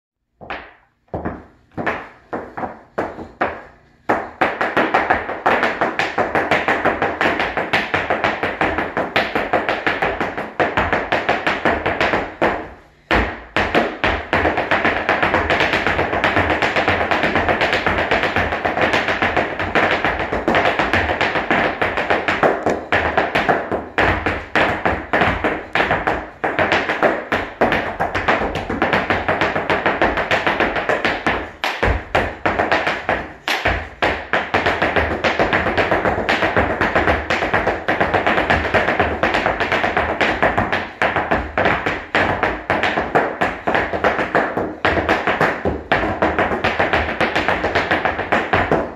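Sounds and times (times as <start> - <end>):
tap shoes on hard floor: 0.4 - 48.9.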